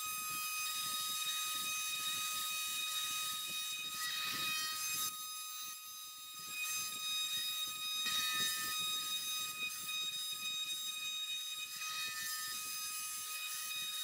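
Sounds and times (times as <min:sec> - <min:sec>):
bit cutting into aluminum: 0:00.0 - 0:14.0
router spindle high-pitched whine: 0:00.0 - 0:14.0.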